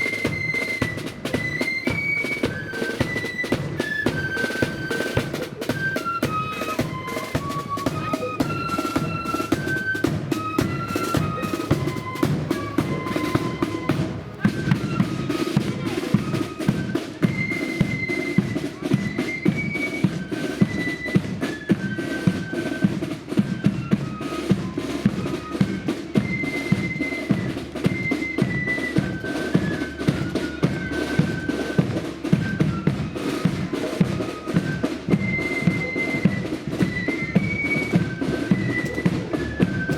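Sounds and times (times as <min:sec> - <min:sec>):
flutes playing melody: 0:00.0 - 0:39.9
snare drums: 0:00.0 - 0:39.9.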